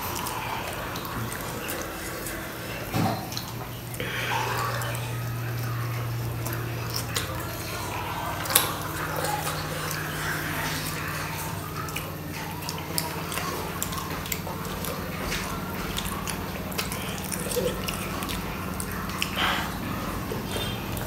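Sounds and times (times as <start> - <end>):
wet chewing and smacks: 0.0 - 21.0.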